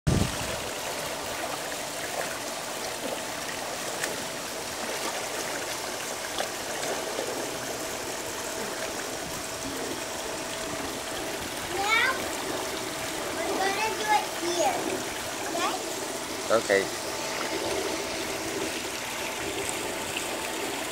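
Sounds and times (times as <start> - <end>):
swimmer splashing: 0.1 - 20.9
water rushing into pool: 0.1 - 20.9.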